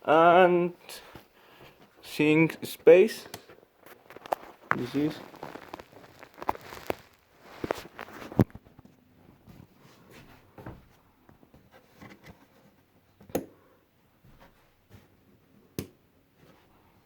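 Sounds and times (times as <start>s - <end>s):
faint handling noises: 0.8s - 17.0s.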